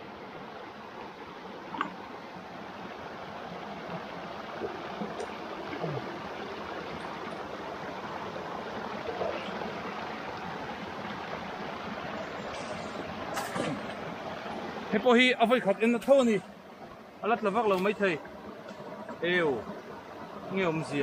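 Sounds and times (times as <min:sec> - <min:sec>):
stream rushing over stones: 0:00.0 - 0:21.0.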